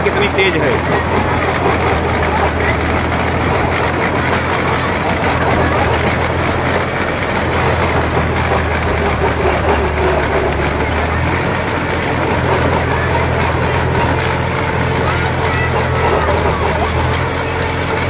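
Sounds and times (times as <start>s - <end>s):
tractor diesel engine under load: 0.0s - 18.0s
trencher cutting soil: 0.0s - 18.0s.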